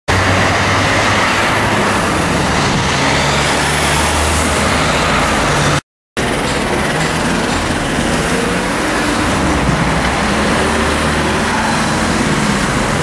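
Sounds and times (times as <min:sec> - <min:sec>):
road traffic noise: 0:00.1 - 0:13.0.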